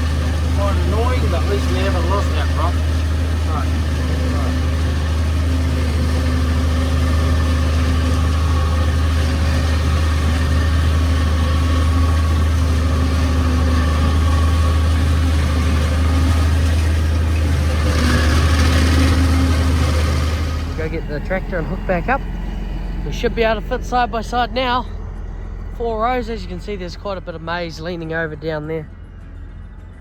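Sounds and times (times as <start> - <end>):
farm vehicle engine running: 0.0 - 30.0.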